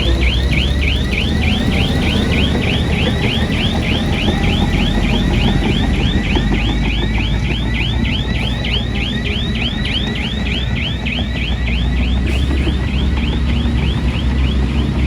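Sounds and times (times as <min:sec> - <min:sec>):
diesel engine rumble: 0:00.0 - 0:15.0
warning alarm sweeping tone: 0:00.0 - 0:15.0.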